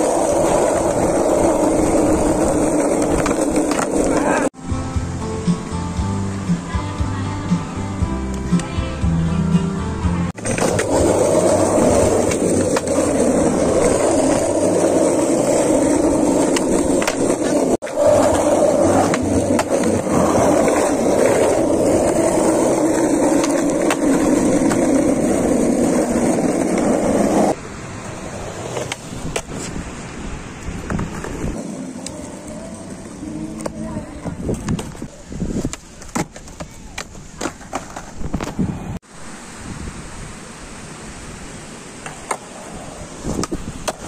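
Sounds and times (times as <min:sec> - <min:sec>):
skateboard wheels rolling on concrete: 0:00.0 - 0:44.0.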